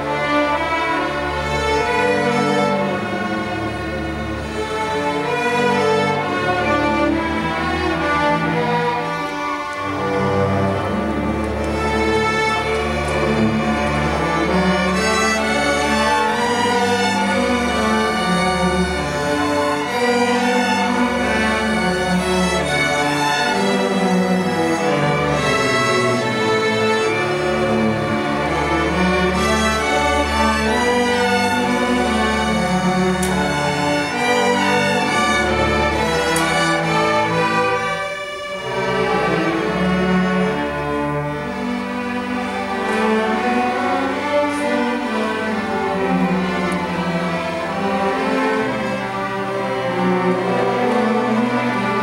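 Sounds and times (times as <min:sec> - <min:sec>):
string orchestra playing: 0:00.0 - 0:52.0.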